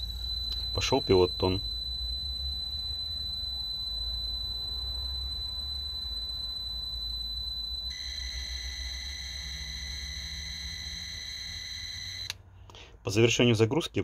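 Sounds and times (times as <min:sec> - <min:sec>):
high-pitched data tones: 0:00.0 - 0:12.3.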